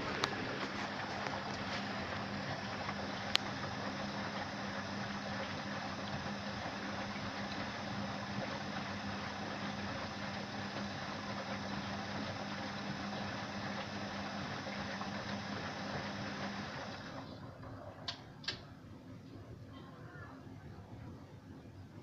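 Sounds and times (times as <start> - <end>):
washing machine humming and splashing: 0.0 - 19.0.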